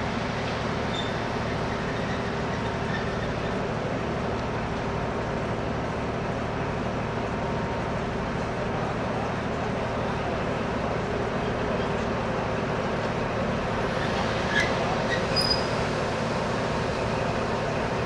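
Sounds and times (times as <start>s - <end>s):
diesel locomotive engine running: 0.0s - 18.0s.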